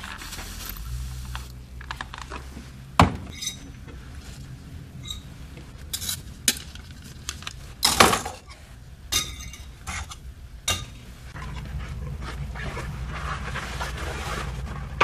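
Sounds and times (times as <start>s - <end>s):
steady low hum: 0.4s - 15.0s.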